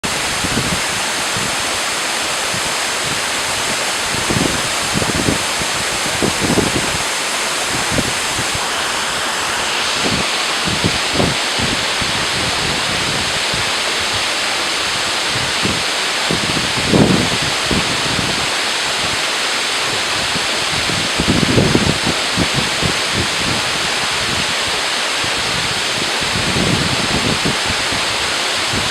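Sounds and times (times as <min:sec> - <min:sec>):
waterfall rushing: 0:00.0 - 0:28.9
wind buffeting microphone: 0:00.0 - 0:28.9.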